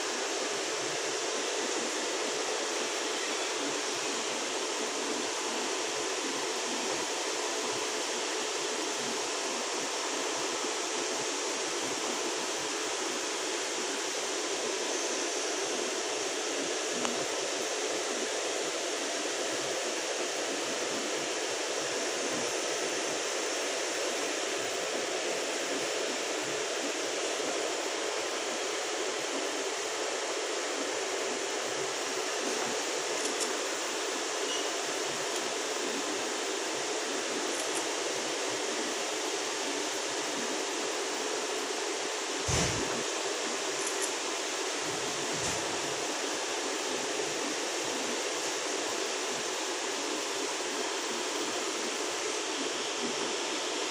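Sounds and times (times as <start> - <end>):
cooling fans rushing air: 0.0 - 53.9.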